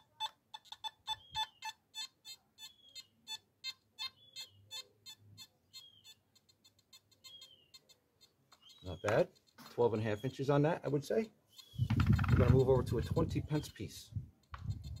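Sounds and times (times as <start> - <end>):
metal detector beeping: 0.0 - 13.8, 14.5 - 15.0.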